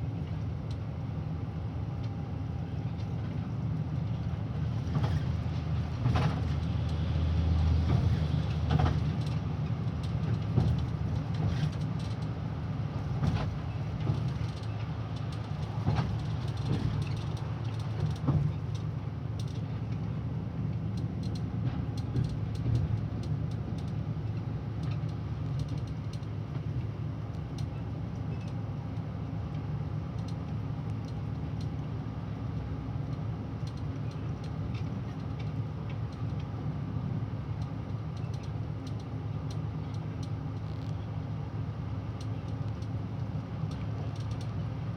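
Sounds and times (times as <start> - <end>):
bus body rattles and creaks: 0.0 - 44.9.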